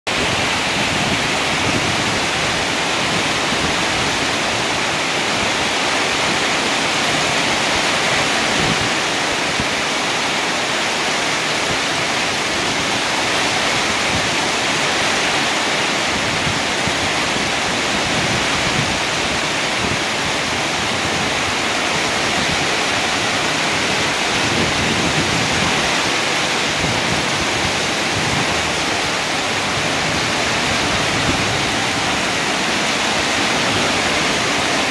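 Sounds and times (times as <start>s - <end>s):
heavy rain splashing on pavement: 0.1s - 34.9s.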